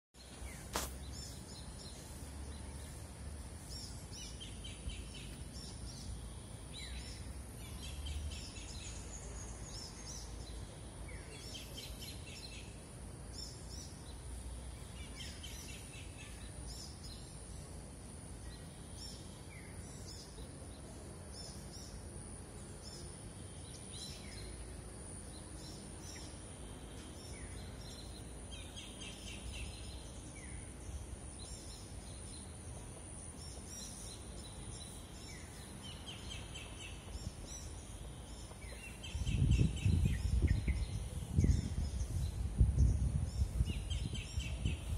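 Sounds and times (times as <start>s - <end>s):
small birds chirping: 0.2s - 44.9s.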